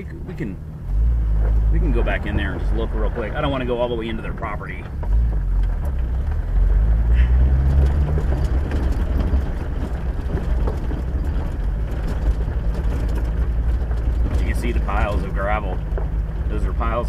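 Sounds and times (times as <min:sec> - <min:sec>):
vehicle engine and road rumble: 0:00.0 - 0:17.0
knocks from rough ground: 0:01.2 - 0:17.0.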